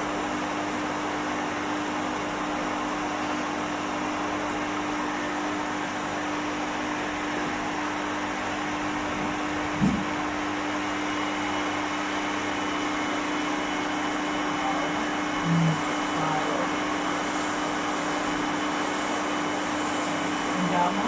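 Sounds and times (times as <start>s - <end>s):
blow dryer running: 0.0s - 21.0s.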